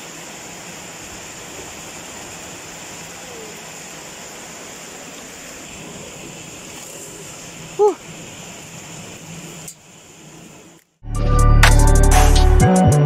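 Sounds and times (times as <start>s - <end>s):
hissing background noise: 0.0s - 11.0s.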